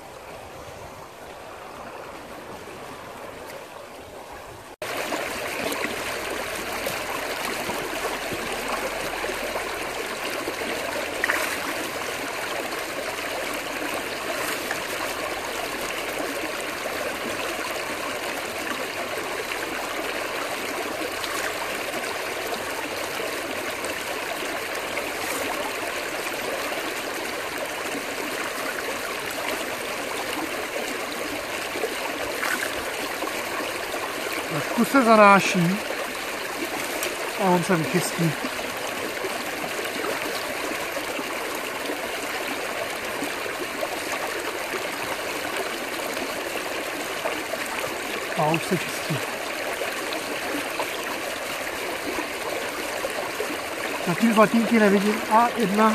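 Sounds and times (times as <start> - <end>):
water rushing down metal sluice: 4.8 - 55.9.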